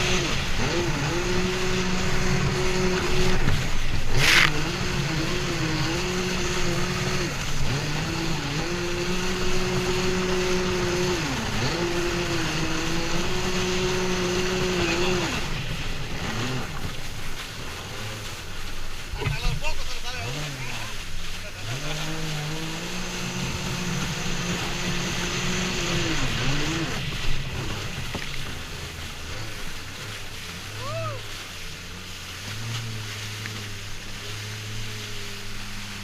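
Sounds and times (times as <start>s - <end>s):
jet ski engine running: 0.0s - 36.0s.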